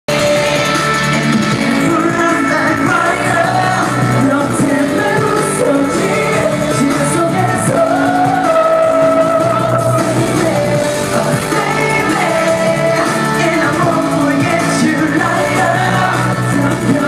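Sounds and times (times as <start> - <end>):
loud pop backing track: 0.1 - 17.0
male singing: 1.2 - 17.0.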